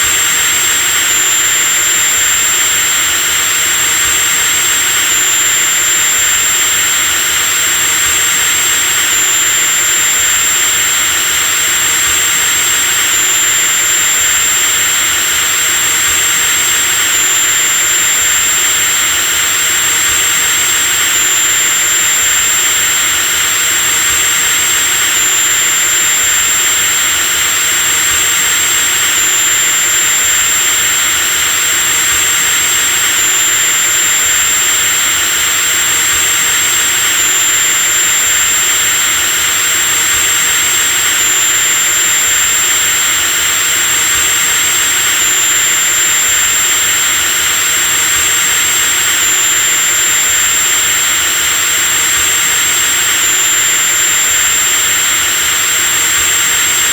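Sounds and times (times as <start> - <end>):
electric drill whining: 0.0 - 56.9.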